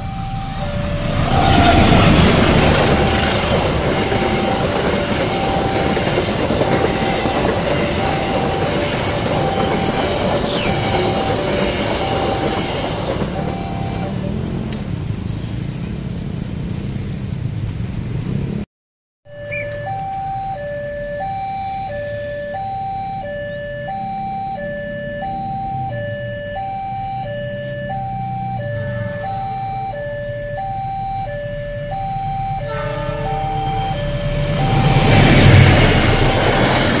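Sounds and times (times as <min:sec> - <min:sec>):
level crossing two-tone alarm: 0:00.0 - 0:14.3, 0:19.3 - 0:37.0
passenger train passing: 0:00.0 - 0:16.8, 0:19.5 - 0:37.0.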